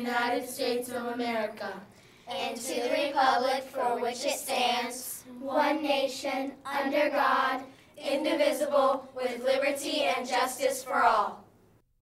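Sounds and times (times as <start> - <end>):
children reciting in unison: 0.0 - 11.4.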